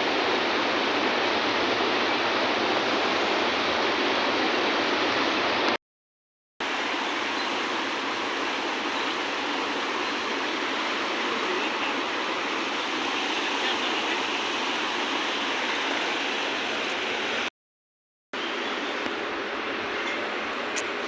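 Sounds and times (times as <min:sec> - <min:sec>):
river water rushing: 0:00.0 - 0:05.8, 0:06.6 - 0:17.5, 0:18.4 - 0:21.0.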